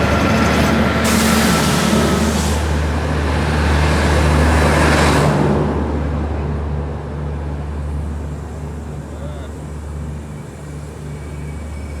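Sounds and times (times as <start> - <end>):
electric locomotive hum: 0.0 - 12.0
wheels rumbling on rail: 0.0 - 12.0.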